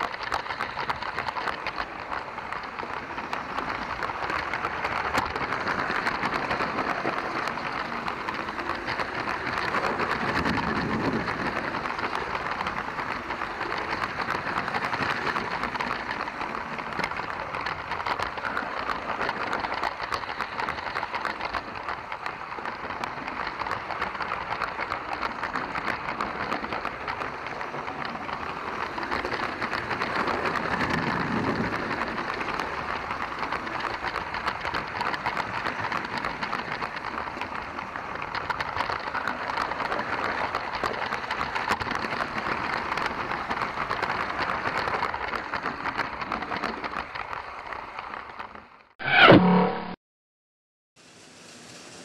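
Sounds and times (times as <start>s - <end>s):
toy train motor whirring: 0.0s - 48.4s
wheels clattering on plastic track: 0.0s - 48.9s.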